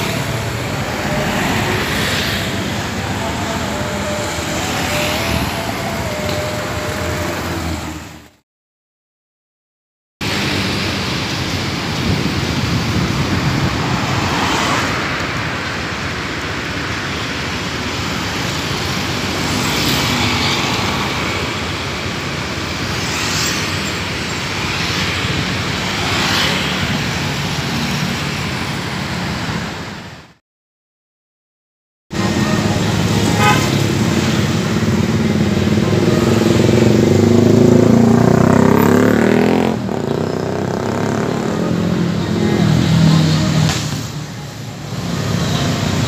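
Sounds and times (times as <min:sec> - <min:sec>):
tyres on road: 0:00.0 - 0:08.4, 0:10.2 - 0:30.4, 0:32.1 - 0:46.0
vehicle engines: 0:00.0 - 0:08.4, 0:10.2 - 0:30.4, 0:32.1 - 0:46.0
vehicles passing close by: 0:00.0 - 0:08.4, 0:10.2 - 0:30.4, 0:32.2 - 0:46.0
wind: 0:00.0 - 0:08.4, 0:10.2 - 0:30.4, 0:32.1 - 0:46.0.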